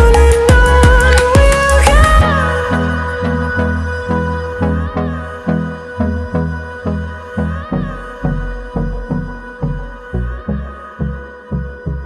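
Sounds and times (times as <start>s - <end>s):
deep bass pulse: 0.0s - 12.0s
held synth chord: 0.0s - 12.0s.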